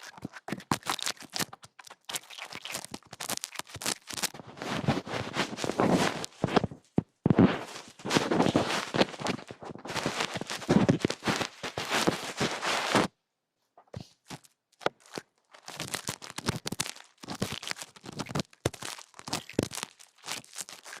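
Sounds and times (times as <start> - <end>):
ear cleaning scratching and clicks: 0.0 - 13.1, 14.2 - 21.0.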